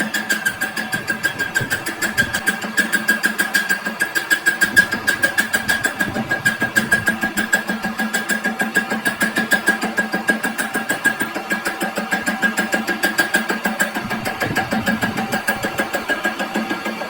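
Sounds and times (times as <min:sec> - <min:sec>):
machine pulsing beat: 0:00.0 - 0:17.0
machine whine: 0:00.0 - 0:17.0.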